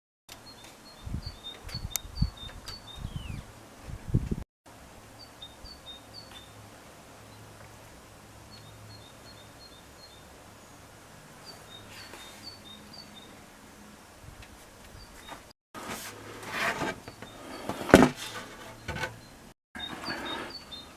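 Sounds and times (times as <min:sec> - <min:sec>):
faint outdoor background noise: 0:00.3 - 0:20.9.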